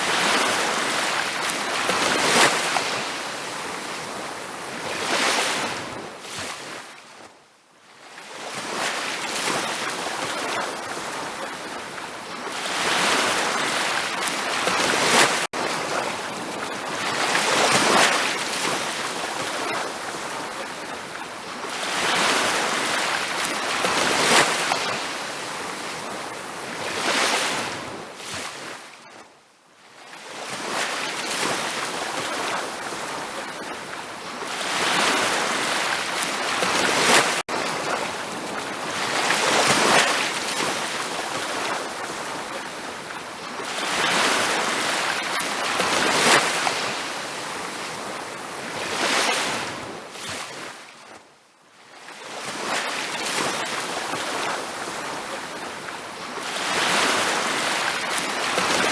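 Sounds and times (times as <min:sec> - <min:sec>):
ocean surf washing onto beach: 0:00.0 - 0:06.8, 0:08.4 - 0:28.7, 0:30.4 - 0:50.7, 0:52.3 - 0:58.9.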